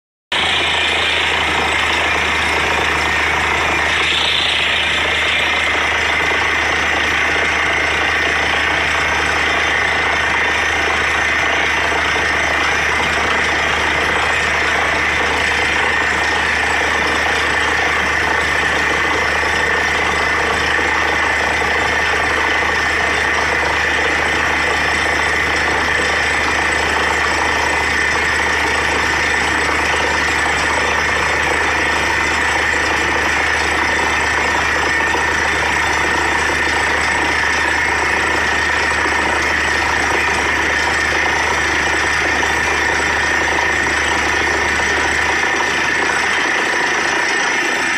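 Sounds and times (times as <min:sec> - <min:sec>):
drilling rig running: 0:00.3 - 0:47.9.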